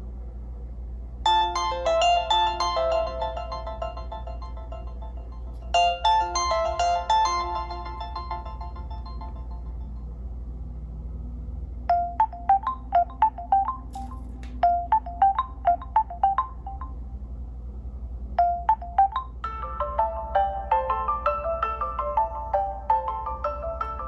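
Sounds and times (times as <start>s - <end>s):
phone ringtone: 1.3s - 10.0s, 11.9s - 17.0s, 18.4s - 24.0s.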